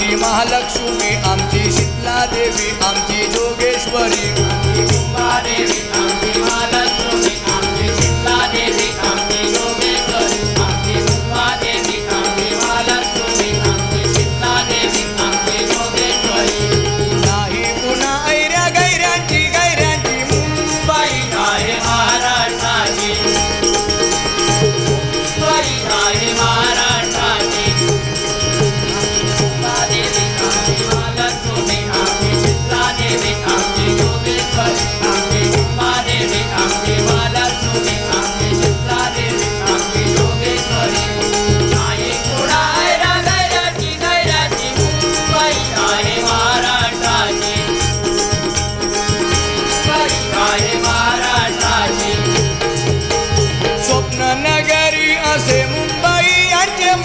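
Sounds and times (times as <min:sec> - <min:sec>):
men singing devotional song: 0:00.0 - 0:57.0
percussion steady beat: 0:00.0 - 0:57.0.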